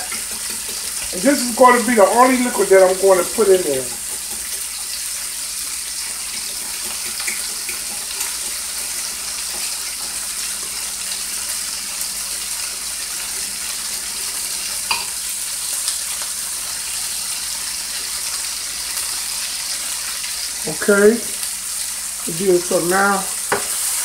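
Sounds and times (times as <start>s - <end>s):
meat sizzling in a skillet: 0.0s - 24.0s.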